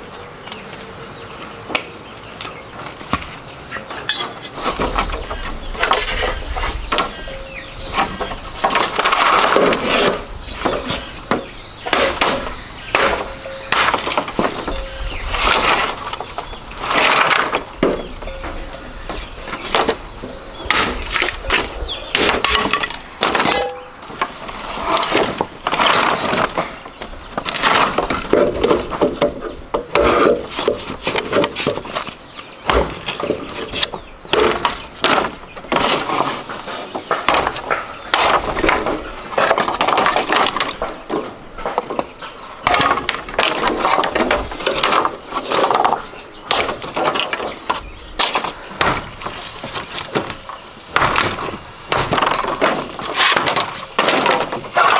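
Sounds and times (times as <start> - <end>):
sharp cracks and knocks: 7.8 - 54.9.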